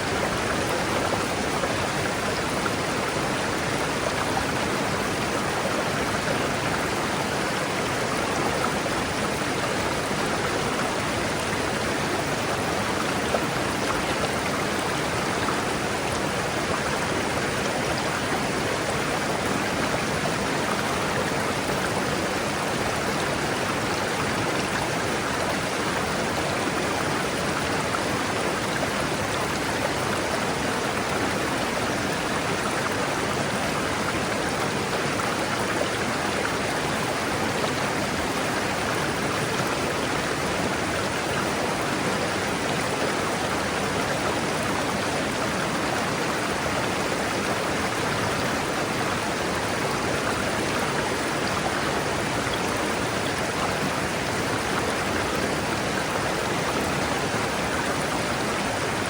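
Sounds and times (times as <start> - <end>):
river rushing over rocks: 0.0 - 59.0.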